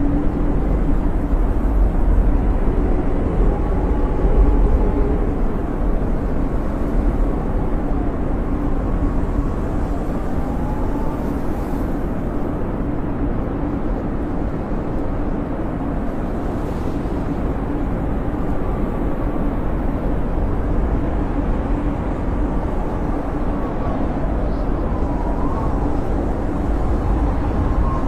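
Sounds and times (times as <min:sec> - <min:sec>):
snowstorm wind blowing: 0:00.0 - 0:28.0.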